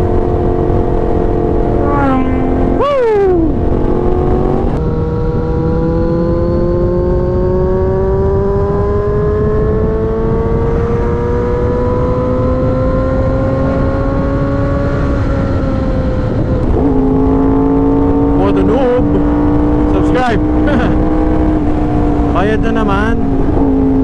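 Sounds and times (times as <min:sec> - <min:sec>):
motorcycle engine accelerating: 0:00.0 - 0:24.0
wind rumble: 0:00.0 - 0:24.0.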